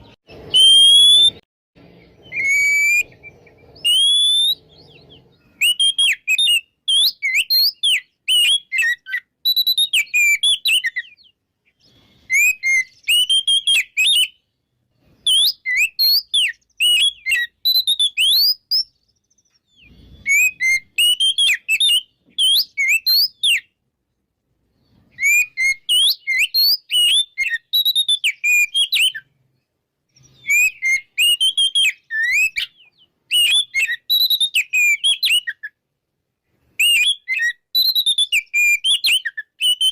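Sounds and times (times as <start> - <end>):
bird singing whistled phrases: 0.0 - 1.4, 2.0 - 23.8, 24.8 - 29.4, 30.1 - 35.8, 36.8 - 39.9.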